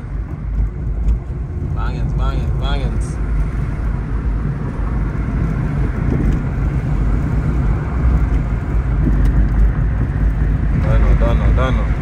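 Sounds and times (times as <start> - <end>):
engine and tyre rumble: 0.0 - 12.0
wind through open window: 0.0 - 12.0.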